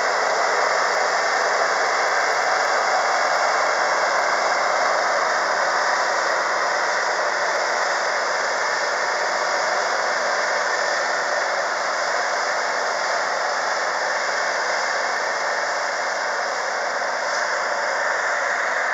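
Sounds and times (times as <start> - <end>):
diesel tractor engine drone: 0.0 - 18.9.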